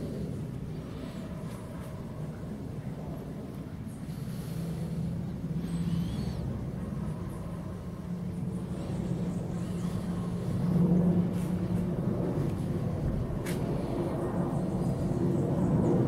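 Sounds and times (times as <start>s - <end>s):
airliner overhead rumble: 0.0s - 16.0s.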